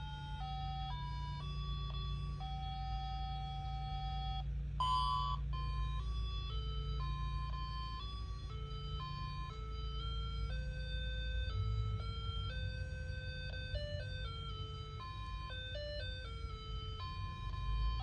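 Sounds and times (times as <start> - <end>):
electronic alarm melody beeps: 0.0 - 18.0.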